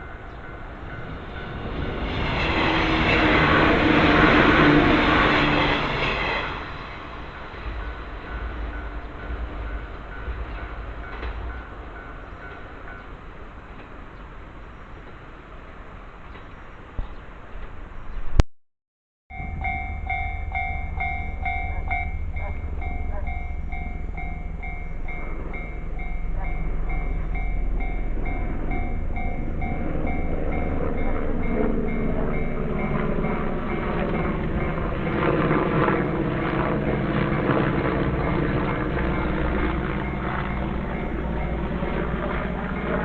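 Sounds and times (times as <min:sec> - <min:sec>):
level-crossing warning bell: 0:00.0 - 0:13.8, 0:19.3 - 0:43.0
train wheels rumbling on rails: 0:00.0 - 0:18.0, 0:19.3 - 0:43.0.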